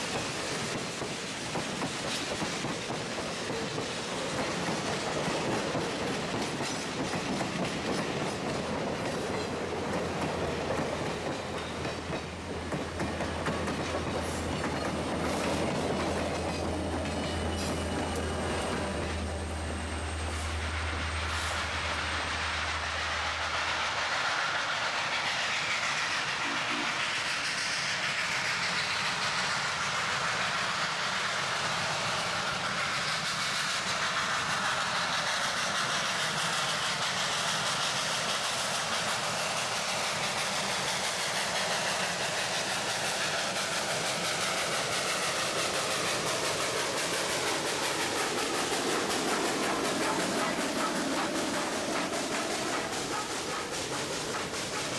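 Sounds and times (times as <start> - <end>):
locomotive wheels on rails: 0.0 - 54.9
steam hissing: 0.0 - 54.9.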